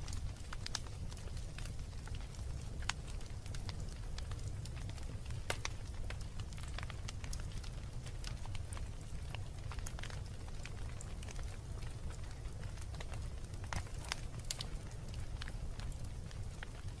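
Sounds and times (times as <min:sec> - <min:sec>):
fire popping and snapping: 0:00.0 - 0:17.0
wood fire crackling: 0:00.0 - 0:17.0.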